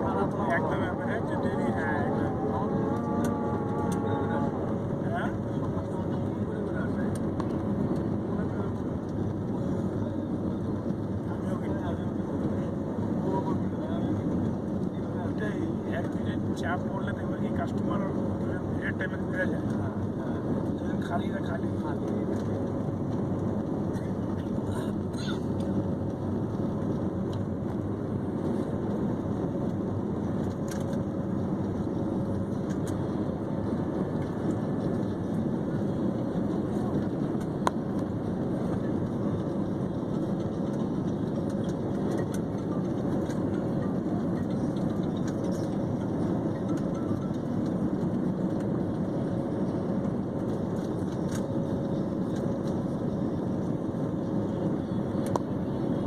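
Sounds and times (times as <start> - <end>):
airliner engine drone in cabin: 0.0 - 56.0.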